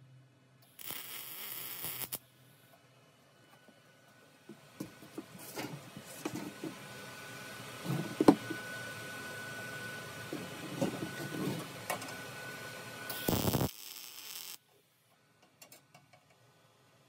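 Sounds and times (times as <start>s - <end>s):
faint steady high whine: 0.0s - 5.6s, 6.3s - 15.4s.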